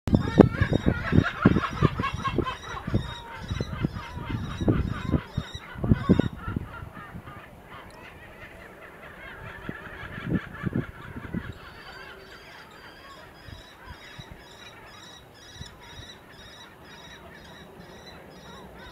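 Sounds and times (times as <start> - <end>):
birds honking: 0.1 - 18.9.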